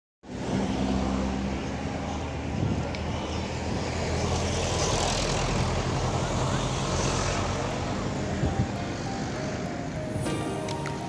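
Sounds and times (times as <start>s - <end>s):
bus passing close by: 0.2s - 11.0s
vehicle engines running: 0.3s - 11.0s.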